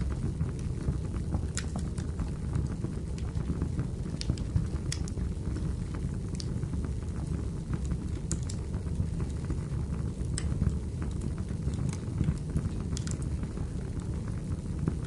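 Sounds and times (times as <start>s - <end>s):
firewood crackling and popping: 0.0s - 15.0s
wood fire rumbling: 0.0s - 15.0s.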